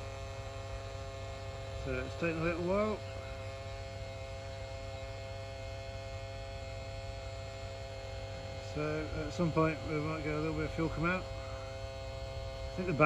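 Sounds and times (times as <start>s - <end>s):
fuel pump humming: 0.0s - 13.0s.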